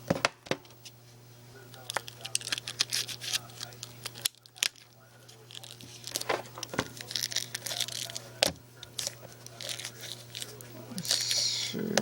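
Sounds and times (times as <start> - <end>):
low steady hum: 0.0 - 12.0
plastic wrapping crinkling and tearing: 1.7 - 11.6.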